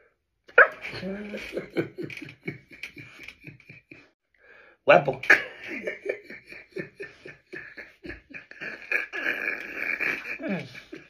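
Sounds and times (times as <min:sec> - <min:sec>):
man laughing: 0:00.6 - 0:04.1, 0:05.1 - 0:11.0.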